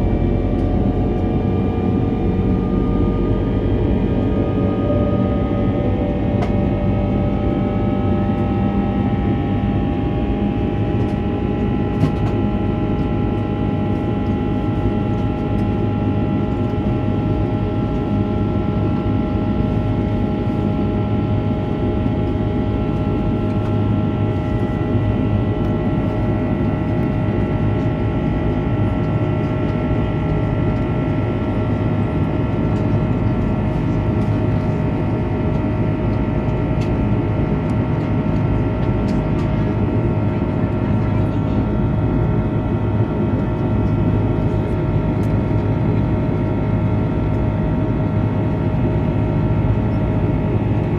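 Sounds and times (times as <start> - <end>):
aircraft cabin engine rush: 0.0 - 50.9.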